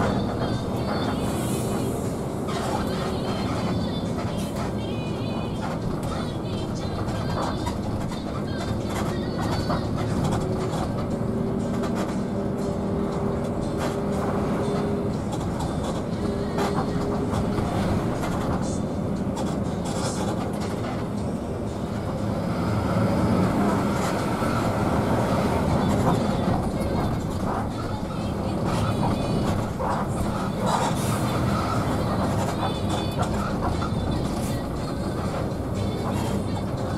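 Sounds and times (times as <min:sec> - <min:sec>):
engine and road rumble: 0:00.0 - 0:36.9.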